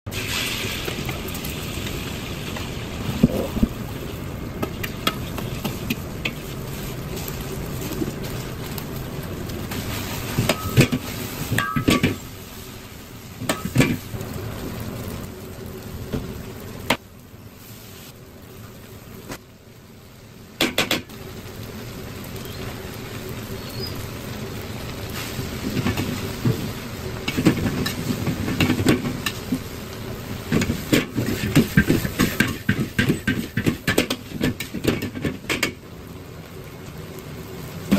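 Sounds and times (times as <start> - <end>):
food sizzling in a wok: 0.1 - 37.9.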